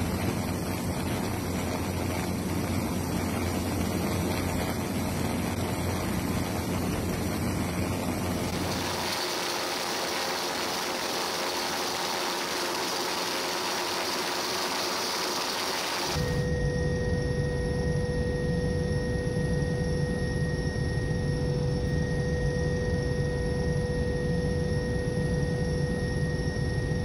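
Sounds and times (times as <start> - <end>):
aircraft engine drone: 0.0 - 27.0.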